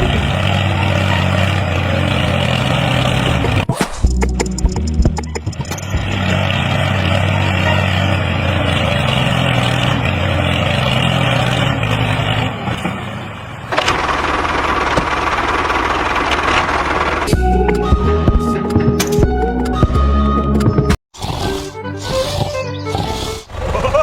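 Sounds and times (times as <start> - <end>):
engine running: 0.0 - 20.8.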